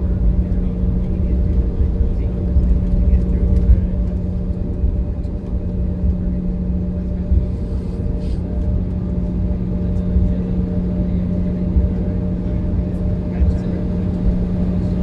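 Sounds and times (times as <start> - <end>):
jet engine hum: 0.0 - 15.0
low uneven rumble: 0.0 - 15.0.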